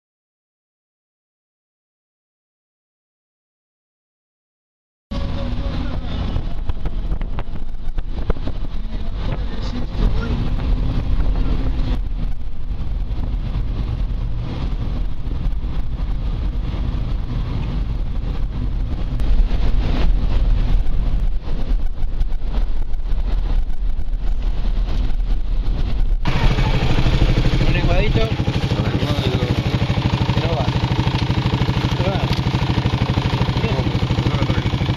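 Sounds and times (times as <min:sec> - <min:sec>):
vehicle engine and road rumble: 0:05.1 - 0:34.9.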